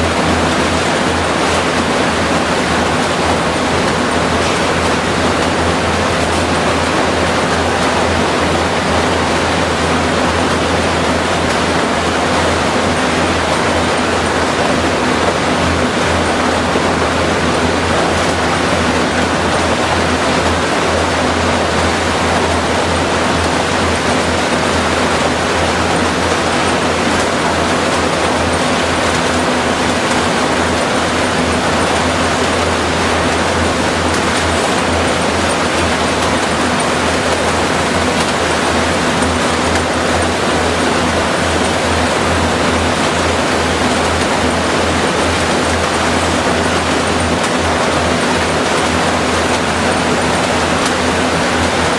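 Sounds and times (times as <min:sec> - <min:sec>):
industrial machinery roar: 0:00.0 - 0:51.9.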